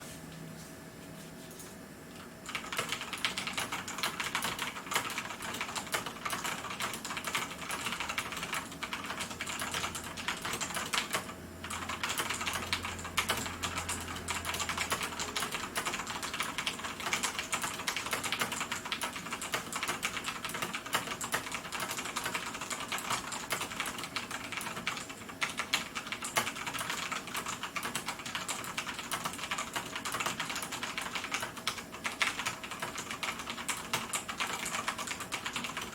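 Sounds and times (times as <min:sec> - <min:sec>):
mechanical keyboard typing: 0:02.5 - 0:35.9.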